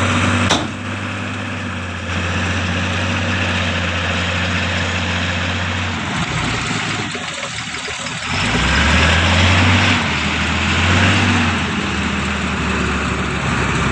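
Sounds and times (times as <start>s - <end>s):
diesel truck engine revving: 0.0s - 13.9s.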